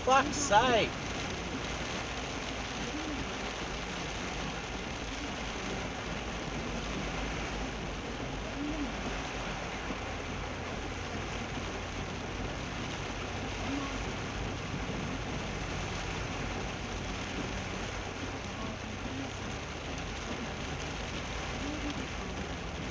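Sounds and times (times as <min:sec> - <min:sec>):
heavy rain on a car: 0:00.0 - 0:22.9
road and engine rumble: 0:00.0 - 0:22.9.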